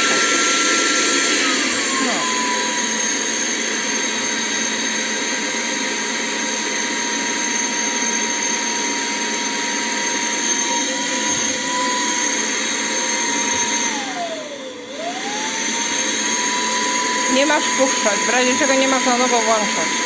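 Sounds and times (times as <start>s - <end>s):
handheld vacuum cleaner running: 0.0s - 20.0s.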